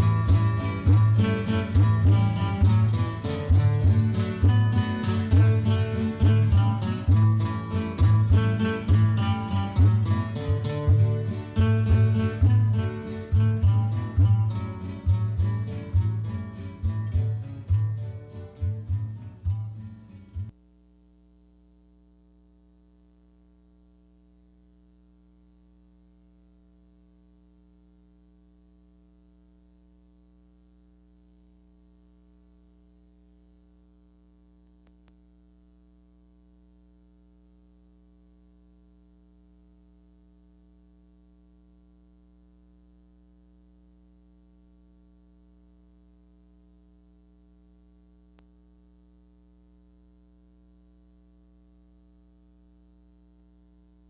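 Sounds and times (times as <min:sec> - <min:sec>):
faint electrical hum: 0:00.0 - 0:54.0.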